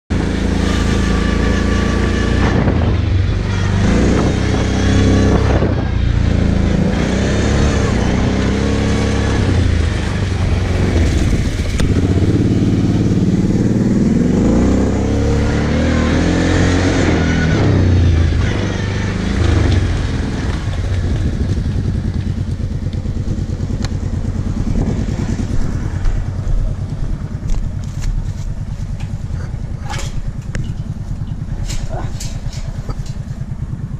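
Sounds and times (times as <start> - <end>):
quad engine revving: 0.1 - 33.9.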